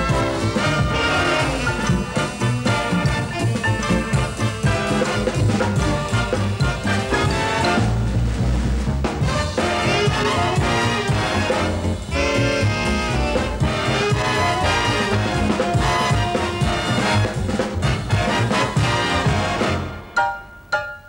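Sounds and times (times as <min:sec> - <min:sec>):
brass band music: 0:00.0 - 0:20.7.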